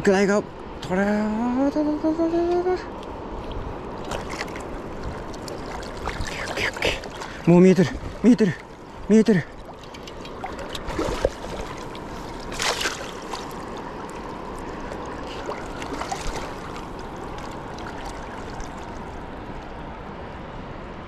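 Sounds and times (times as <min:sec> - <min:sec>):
water splashes: 0:02.9 - 0:20.1
fast river rushing: 0:02.9 - 0:21.0.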